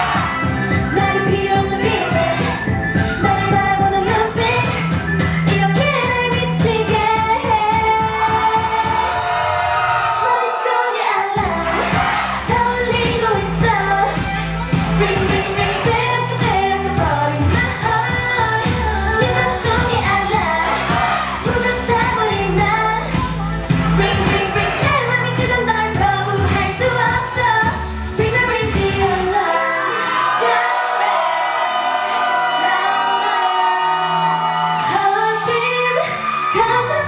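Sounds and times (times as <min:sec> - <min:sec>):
pop dance beat: 0:00.0 - 0:09.8, 0:10.4 - 0:30.7
female vocals singing: 0:00.6 - 0:09.2, 0:10.2 - 0:31.4, 0:34.6 - 0:37.0.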